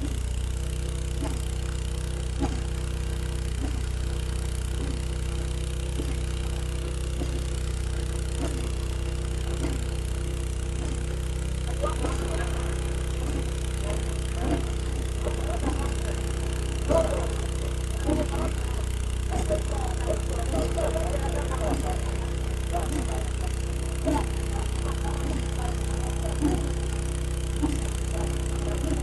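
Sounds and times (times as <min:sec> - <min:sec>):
drilling rig engine running: 0:00.0 - 0:29.0
regular knocking: 0:04.8 - 0:29.0.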